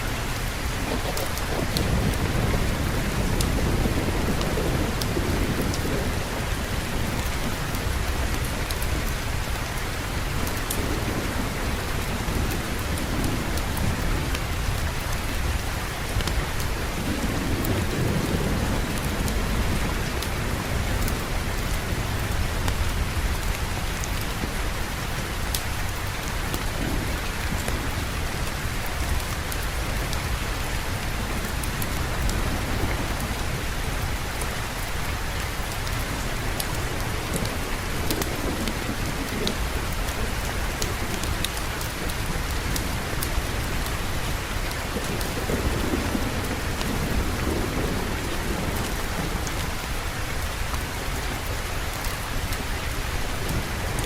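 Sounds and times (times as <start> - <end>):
heavy rain: 0.0 - 54.0
low rumbling thunder: 0.1 - 54.0.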